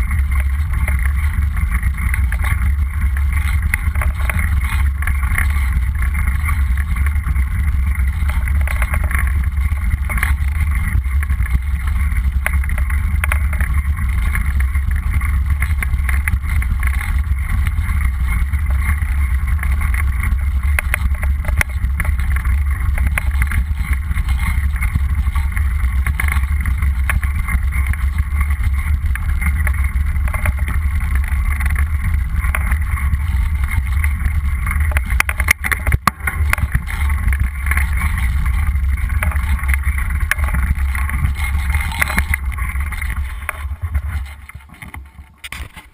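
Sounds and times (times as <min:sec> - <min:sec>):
bike clicks and rattles: 0:00.0 - 0:45.9
wind rumbling on microphone: 0:00.0 - 0:45.9.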